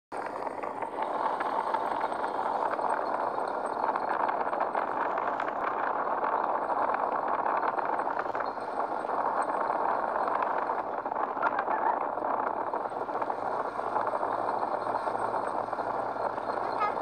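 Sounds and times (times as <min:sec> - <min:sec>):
motorcycle engine and wind rush: 0:00.2 - 0:17.0.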